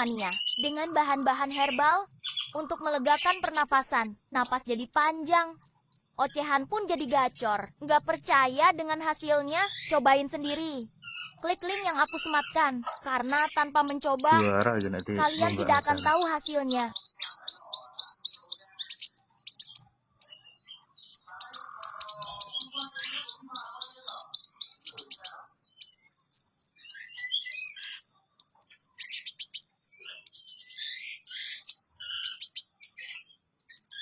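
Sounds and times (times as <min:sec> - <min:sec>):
songbird chattering song: 0:00.0 - 0:34.0.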